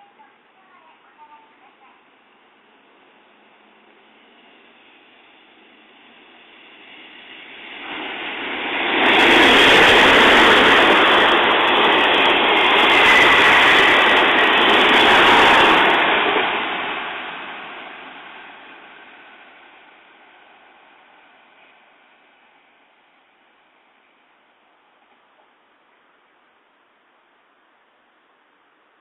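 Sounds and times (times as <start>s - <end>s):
electric train passing: 0.0s - 27.8s.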